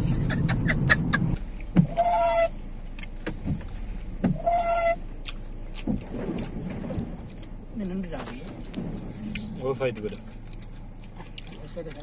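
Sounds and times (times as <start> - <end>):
road rumble inside car: 0.0 - 12.0.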